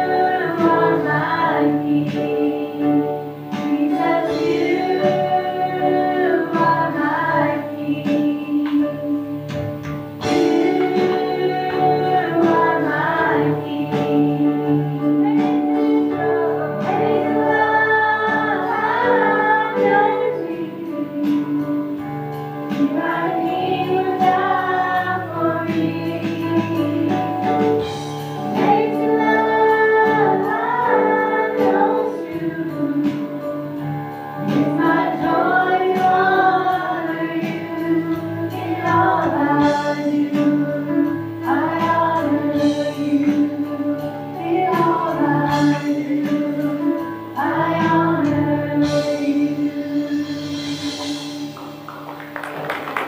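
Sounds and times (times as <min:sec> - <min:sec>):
women singing together: 0:00.0 - 0:22.1, 0:22.7 - 0:51.8
acoustic guitar: 0:00.0 - 0:53.0.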